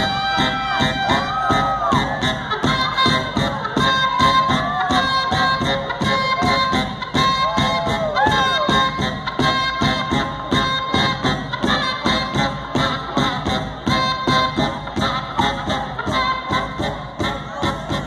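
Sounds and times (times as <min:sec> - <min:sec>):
brass house music: 0:00.0 - 0:18.0
driving drum beat: 0:00.0 - 0:18.0.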